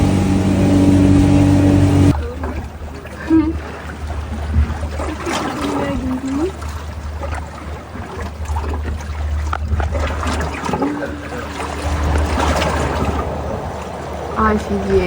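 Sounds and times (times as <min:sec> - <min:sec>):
steady low rumble: 0:00.0 - 0:15.0
water splashing and trickling: 0:00.0 - 0:15.0.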